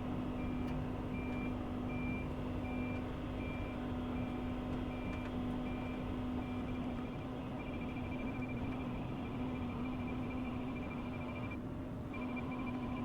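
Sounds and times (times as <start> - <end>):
diesel engine drone: 0.0 - 13.0
excavator travel alarm beeping: 0.4 - 13.0.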